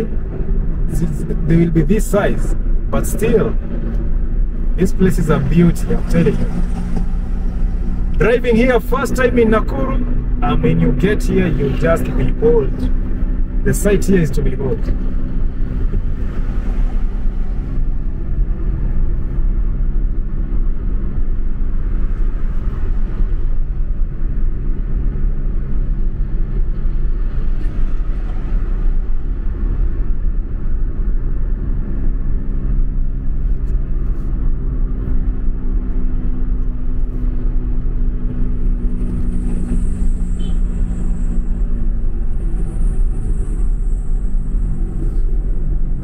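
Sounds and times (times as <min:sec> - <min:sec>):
car engine drone: 0:00.0 - 0:46.0.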